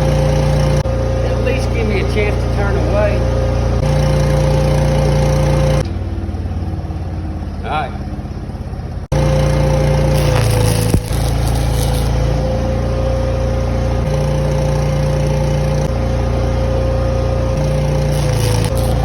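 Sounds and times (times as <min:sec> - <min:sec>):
engine running with whine: 0:00.0 - 0:19.0.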